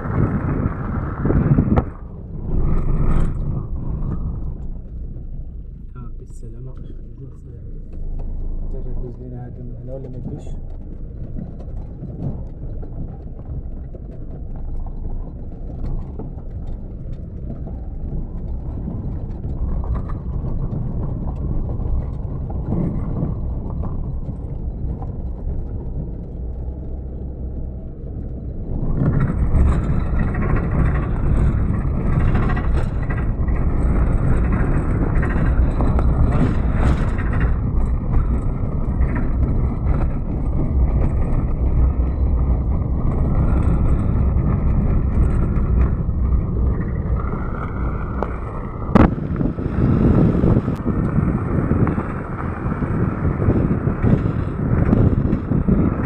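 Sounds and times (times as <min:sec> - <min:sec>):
car driving on gravel track: 0:00.0 - 0:56.0.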